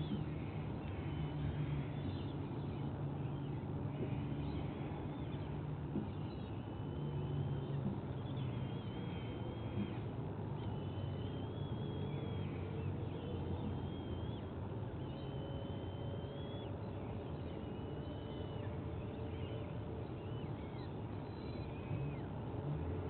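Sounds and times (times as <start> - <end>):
low rumble of wind or traffic: 0.0 - 23.0.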